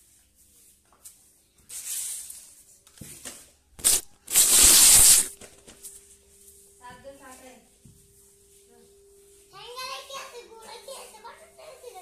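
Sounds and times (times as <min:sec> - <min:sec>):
broom swishing on concrete: 0:00.0 - 0:03.2, 0:03.8 - 0:12.0.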